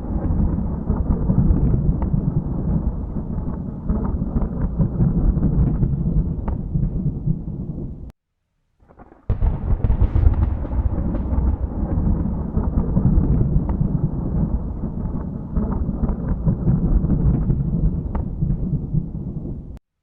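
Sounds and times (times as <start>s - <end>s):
sharp thunder crack: 0.0s - 8.1s, 8.8s - 19.8s
thunder rumbling: 0.0s - 8.1s, 8.8s - 19.8s.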